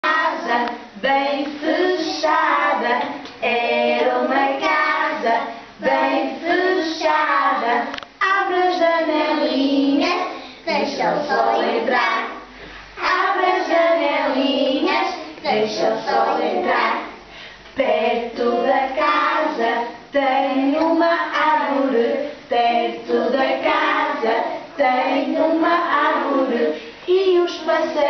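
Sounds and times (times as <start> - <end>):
children singing in unison: 0.0 - 17.2, 17.8 - 28.0.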